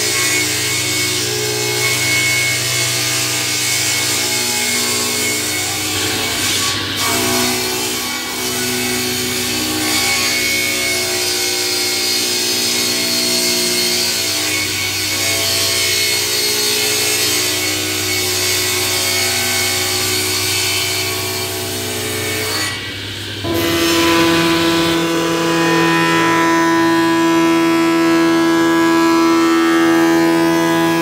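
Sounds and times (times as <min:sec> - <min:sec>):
panel saw cutting wood: 0:00.0 - 0:31.0.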